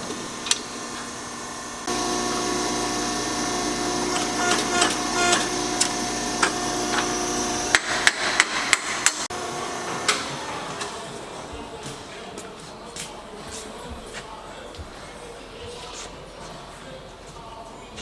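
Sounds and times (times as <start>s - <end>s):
steady shop drone: 0.0s - 16.4s.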